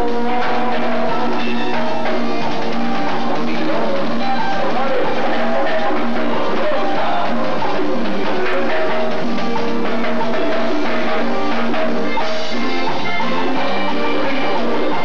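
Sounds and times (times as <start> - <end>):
electronic keyboards playing: 0.0 - 15.0
steady percussion beat: 0.0 - 15.0.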